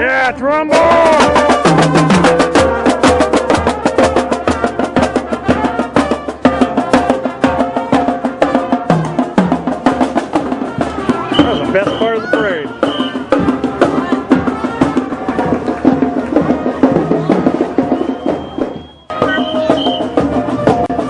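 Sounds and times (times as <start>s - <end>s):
marching band drums: 0.6s - 21.0s.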